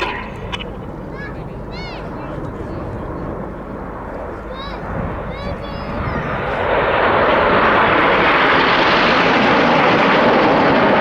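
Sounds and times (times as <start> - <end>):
jets passing in formation: 0.0 - 11.0.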